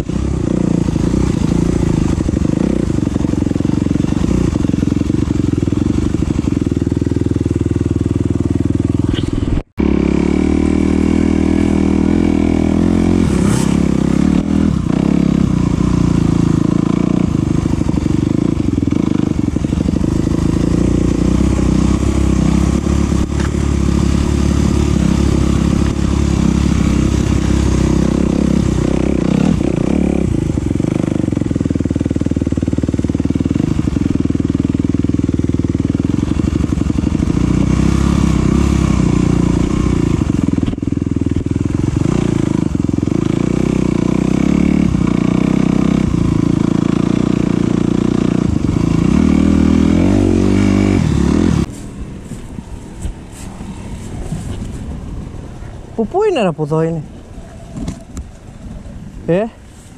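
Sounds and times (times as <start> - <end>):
dirt bike engine: 0.0 - 59.9.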